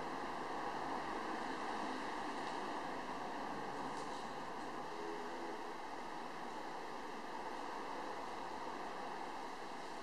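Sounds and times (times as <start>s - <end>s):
steady rushing hiss: 0.0s - 10.0s.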